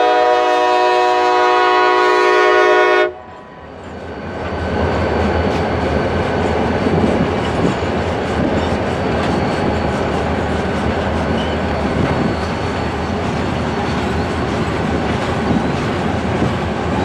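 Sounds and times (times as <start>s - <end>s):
train wheels rumbling and rattling: 3.2s - 17.0s.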